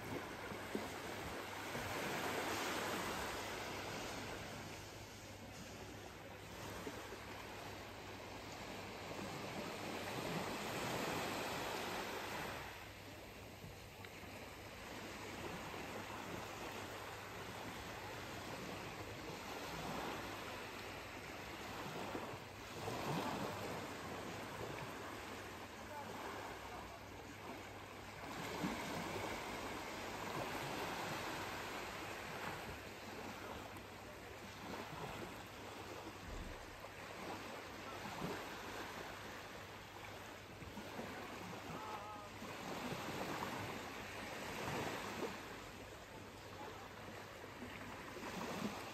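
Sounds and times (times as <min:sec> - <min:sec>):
small waves lapping on beach: 0:00.0 - 0:48.9.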